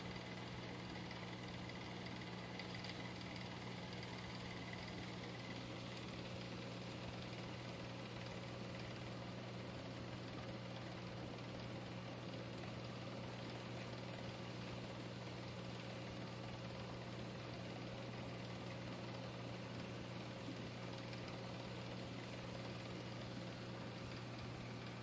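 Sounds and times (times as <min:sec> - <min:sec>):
aquarium pump hum: 0:00.0 - 0:25.0.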